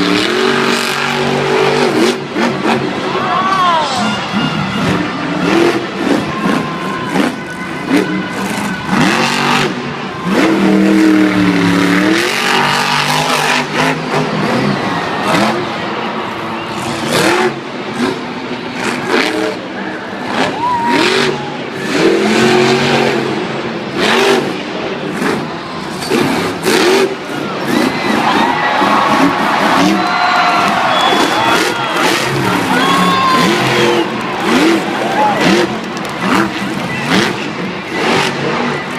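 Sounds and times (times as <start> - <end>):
truck engine revving hard: 0.0 - 3.3, 4.0 - 38.9.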